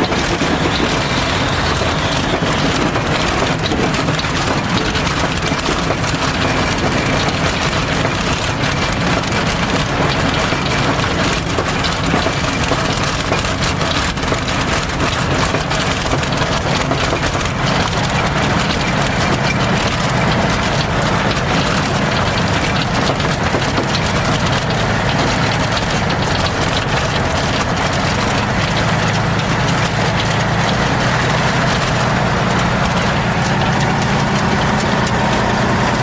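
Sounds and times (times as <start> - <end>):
light aircraft engine running: 0.0 - 36.0.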